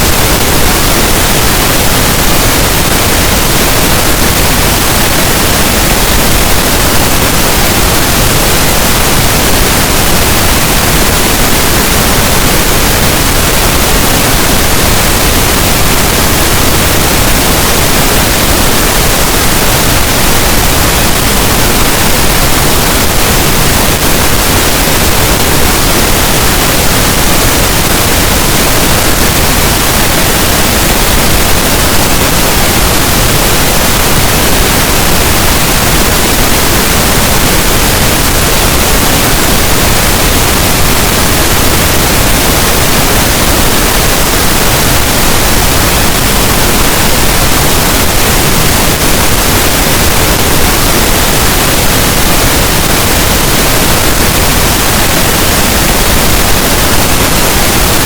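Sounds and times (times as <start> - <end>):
loud pink noise hiss: 0.0 - 58.0.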